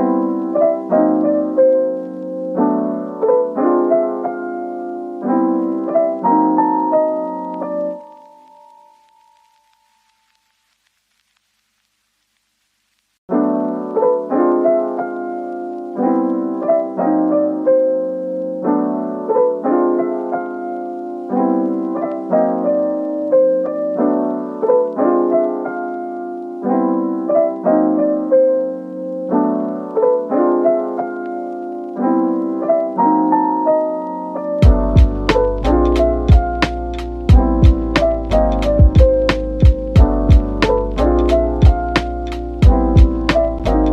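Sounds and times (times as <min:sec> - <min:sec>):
gentle piano music: 0:00.0 - 0:10.4, 0:13.3 - 0:43.9.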